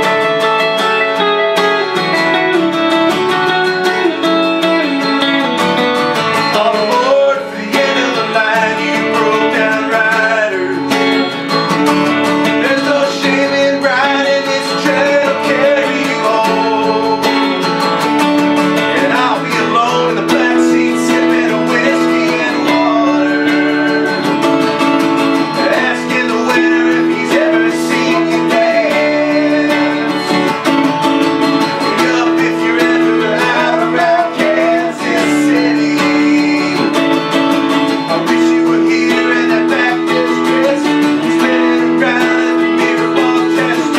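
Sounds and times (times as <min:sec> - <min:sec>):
acoustic guitar strumming: 0:00.0 - 0:43.9
electric guitar playing: 0:00.0 - 0:43.9.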